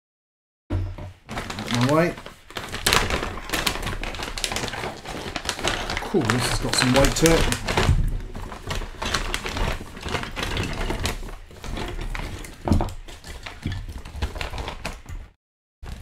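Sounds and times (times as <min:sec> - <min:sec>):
plastic bag crinkling: 0:01.2 - 0:16.0.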